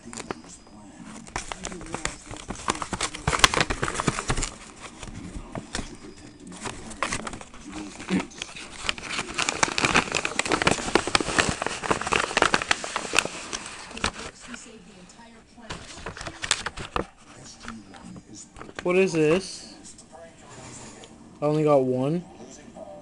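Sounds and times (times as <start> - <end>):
paper packaging crinkling: 0.0 - 14.7, 15.6 - 19.8.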